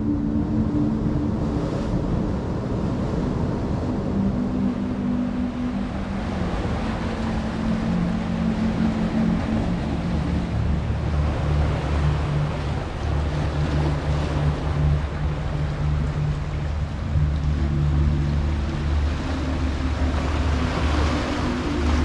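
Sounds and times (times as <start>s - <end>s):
low droning hum: 0.0s - 22.0s
ocean surf over rocks: 0.0s - 22.0s.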